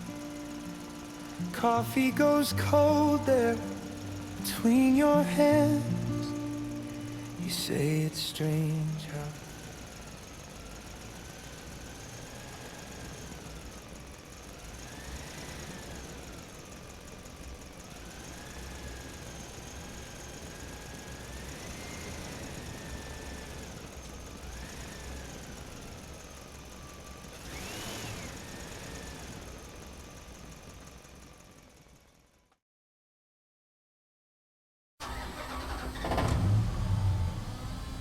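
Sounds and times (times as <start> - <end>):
small electric motors whining: 0.0 - 31.3.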